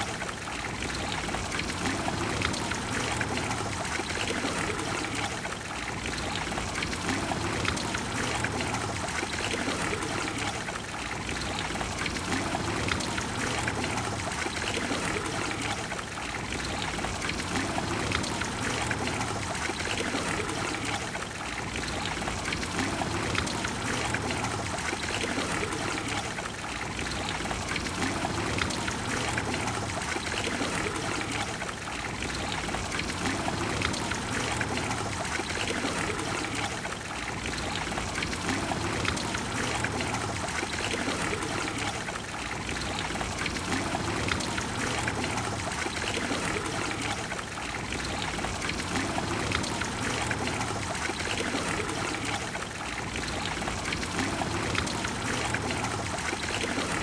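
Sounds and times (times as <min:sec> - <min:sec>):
fountain water flowing: 0:00.0 - 0:57.0.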